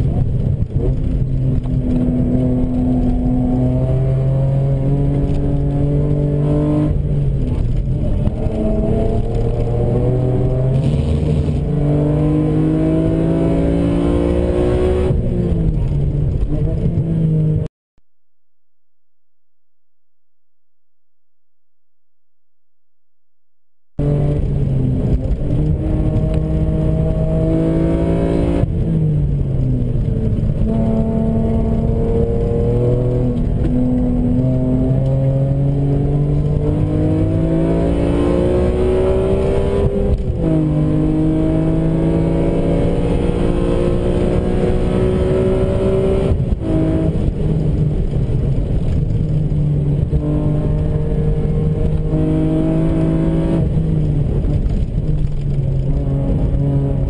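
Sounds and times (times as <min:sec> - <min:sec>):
car engine revving: 0:00.0 - 0:17.7, 0:24.0 - 0:57.0.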